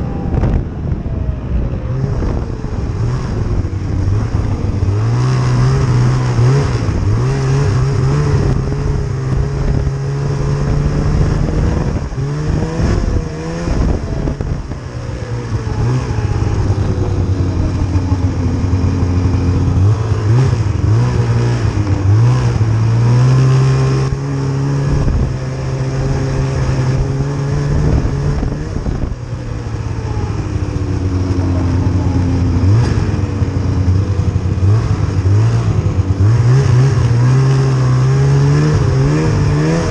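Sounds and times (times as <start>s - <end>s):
snowmobile engine: 0.0s - 39.9s.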